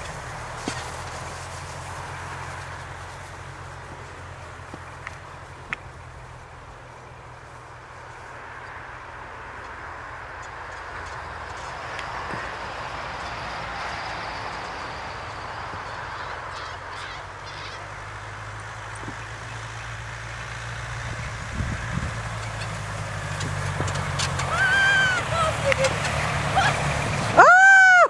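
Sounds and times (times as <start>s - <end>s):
continuous rushing noise: 0.0s - 28.0s
truck engine humming: 0.0s - 28.0s.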